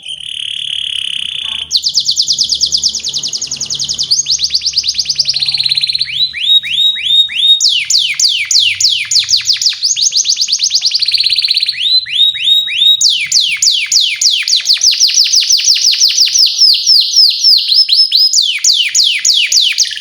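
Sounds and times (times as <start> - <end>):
canary singing: 0.0 - 20.0
rapid bird trill: 0.0 - 20.0.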